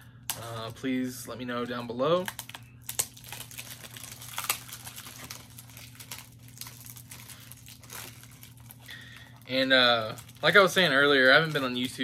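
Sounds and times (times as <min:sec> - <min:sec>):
steady low hum: 0:00.0 - 0:12.0
packaging crinkling: 0:01.7 - 0:12.0.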